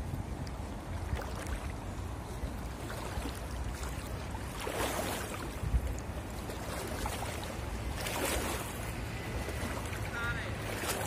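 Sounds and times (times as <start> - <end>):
shallow rocky river flowing: 0.0 - 11.0
wind buffeting microphone: 0.0 - 11.0.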